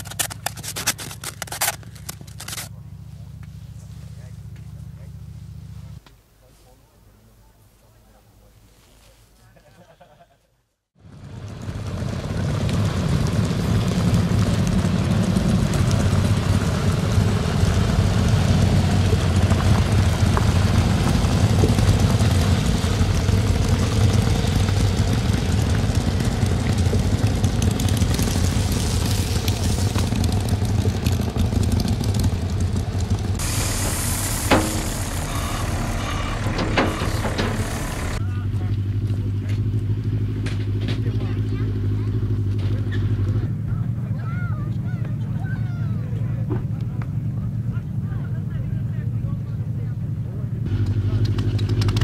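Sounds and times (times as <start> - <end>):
motorcycle engine running: 0.0 - 6.0, 11.0 - 52.0.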